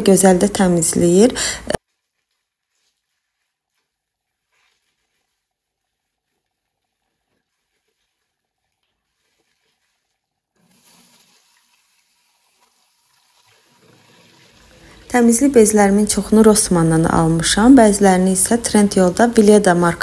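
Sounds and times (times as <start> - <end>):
wet cloth rubbed and rinsed: 0.0 - 20.0
tap water running into basin: 2.6 - 19.4.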